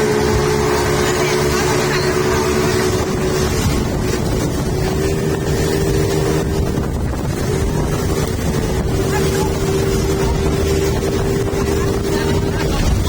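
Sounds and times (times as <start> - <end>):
speedboat engine humming: 0.0 - 13.0
wind buffeting microphone: 0.0 - 13.0.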